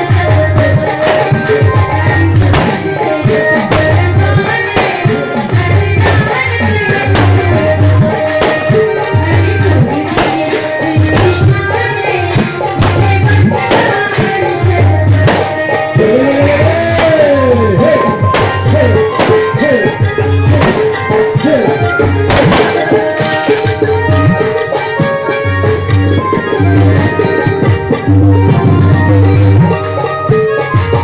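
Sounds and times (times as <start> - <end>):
driving drum beat: 0.0 - 31.0
hand-drum percussion: 0.0 - 31.0.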